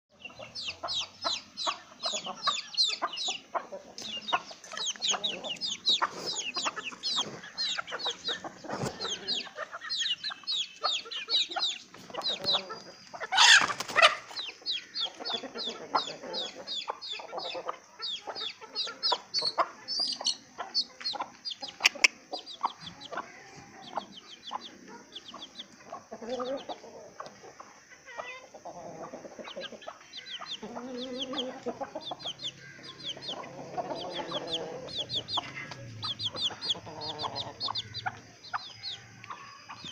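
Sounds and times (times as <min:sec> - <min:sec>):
chickens clucking: 0:00.1 - 0:39.9
chicks peeping: 0:00.1 - 0:39.9.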